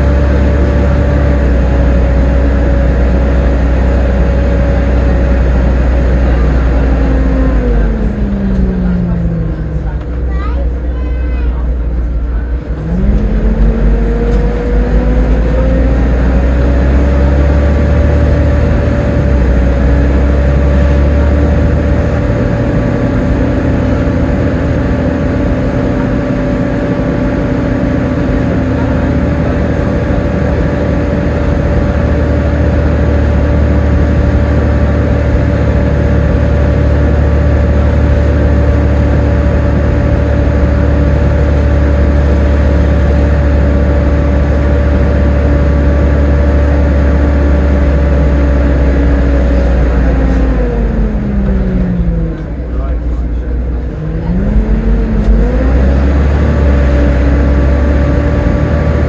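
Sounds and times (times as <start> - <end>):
bus driveline whine: 0.0 - 59.0
heavy low engine rumble: 0.0 - 59.0.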